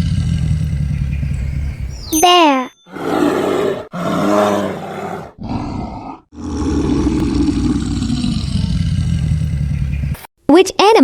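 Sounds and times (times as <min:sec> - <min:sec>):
bear roaring and growling: 0:00.0 - 0:01.9, 0:02.9 - 0:10.2.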